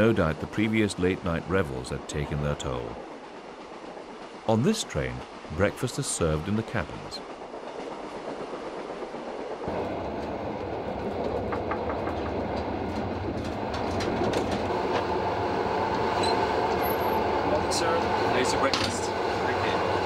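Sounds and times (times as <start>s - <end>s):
train rumbling with wheel clatter: 0.0s - 20.0s.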